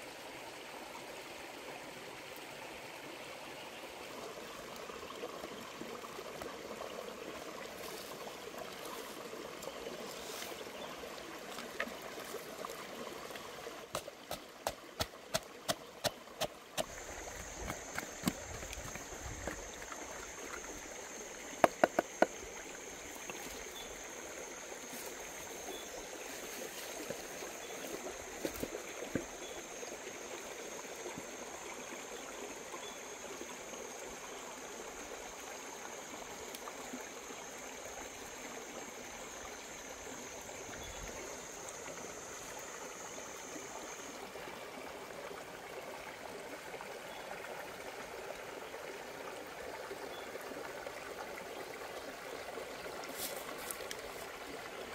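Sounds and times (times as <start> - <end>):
stream running over rocks: 0.0 - 54.9.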